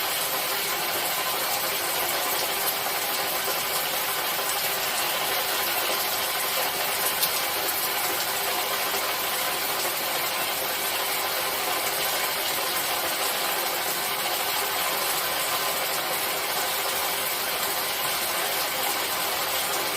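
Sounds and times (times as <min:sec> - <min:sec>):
steady rain: 0:00.0 - 0:19.9.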